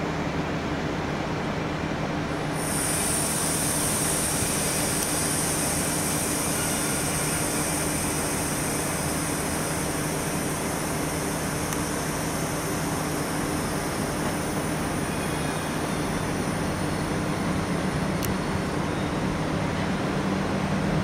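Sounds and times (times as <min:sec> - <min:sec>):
standing train humming: 0:00.0 - 0:21.0
high steady hiss: 0:02.2 - 0:21.0.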